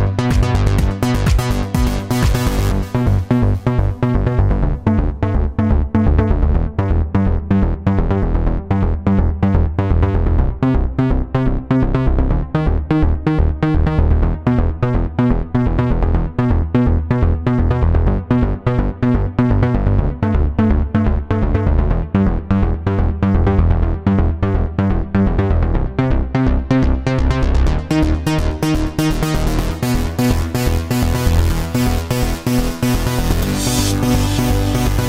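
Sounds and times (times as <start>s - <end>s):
electronic music with fast beat: 0.0s - 25.1s, 26.3s - 35.0s.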